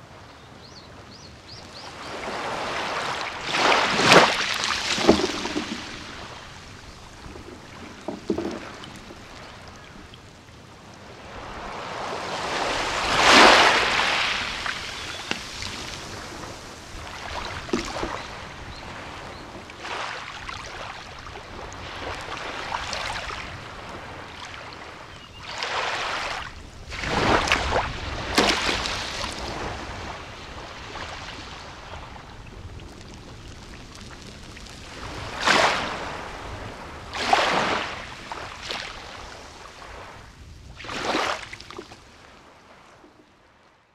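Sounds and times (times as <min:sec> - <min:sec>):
small waves breaking on beach: 0:00.9 - 0:43.9.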